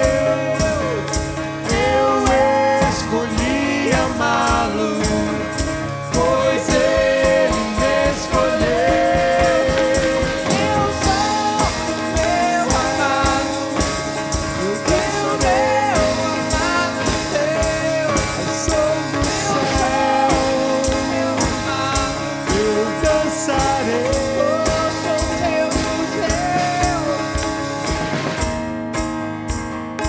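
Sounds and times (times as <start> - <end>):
person singing: 0.0 - 27.6
drum kit beat: 0.0 - 30.0
strummed acoustic guitar: 0.0 - 30.0.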